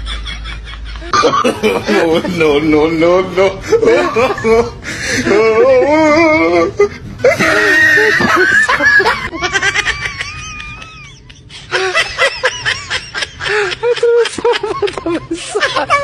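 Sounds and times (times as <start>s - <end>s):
person laughing: 0.0s - 16.0s.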